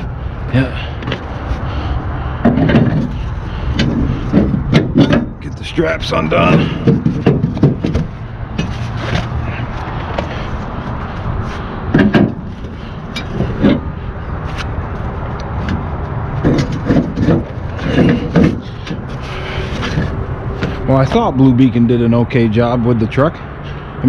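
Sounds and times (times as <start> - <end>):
diesel truck engine idling: 0.0 - 23.9.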